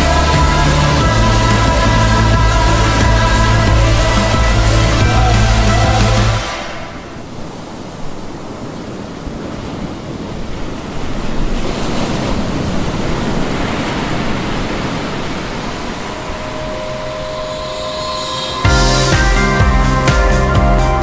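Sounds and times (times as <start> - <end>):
water rushing past a boat: 0.0 - 19.0.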